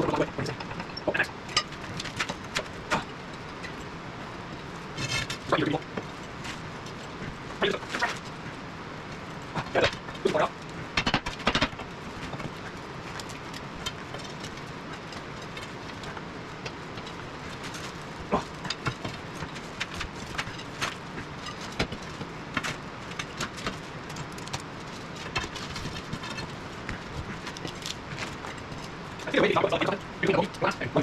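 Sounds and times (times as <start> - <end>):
hand tools clicking and clanking: 0.0 - 30.8
steady background noise: 0.0 - 31.0.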